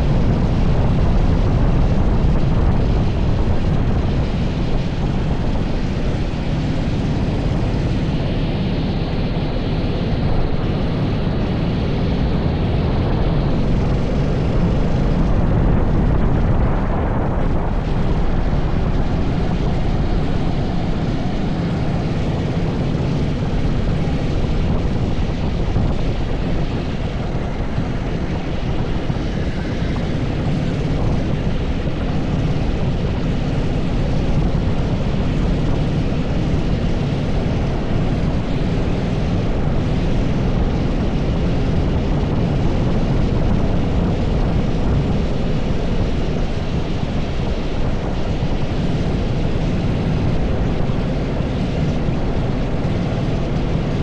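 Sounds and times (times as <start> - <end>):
kart engine running: 0.0 - 54.0.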